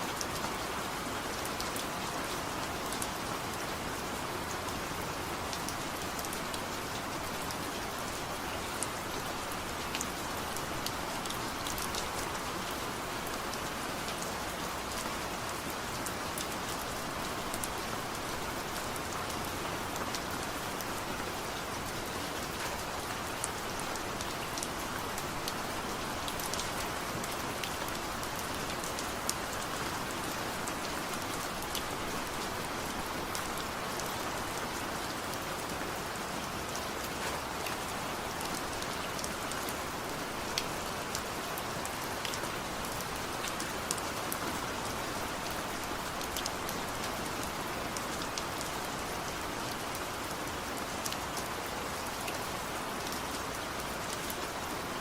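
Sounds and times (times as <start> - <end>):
steady rain falling: 0.0 - 55.0
raindrops pattering on a surface: 0.1 - 55.0.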